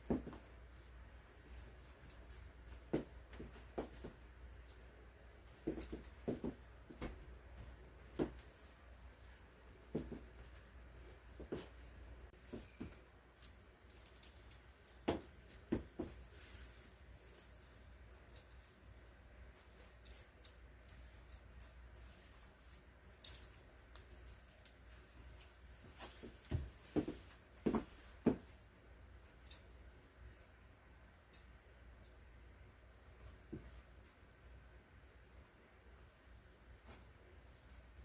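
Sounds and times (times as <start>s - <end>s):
low room hum: 0.0s - 38.0s.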